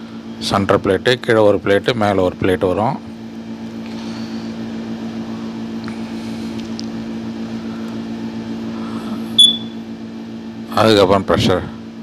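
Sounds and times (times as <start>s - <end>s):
steady low machine hum: 0.0s - 12.0s.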